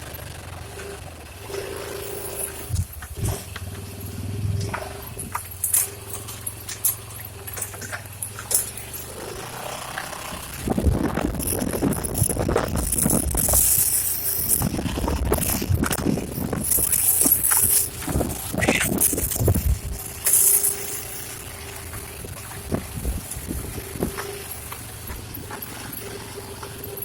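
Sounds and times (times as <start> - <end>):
off-road vehicle engine running: 0.0 - 27.0
vehicle rattling over rough ground: 0.0 - 27.0.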